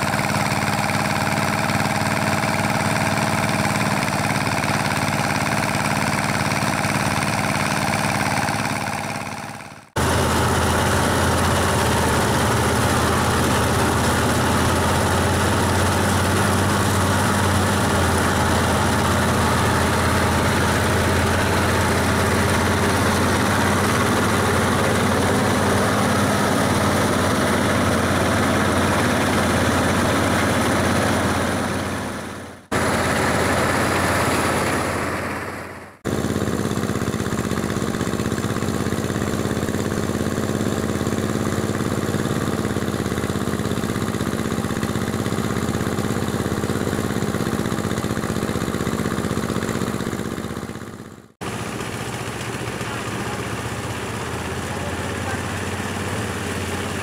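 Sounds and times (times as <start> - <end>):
rice thresher humming: 0.0 - 57.0.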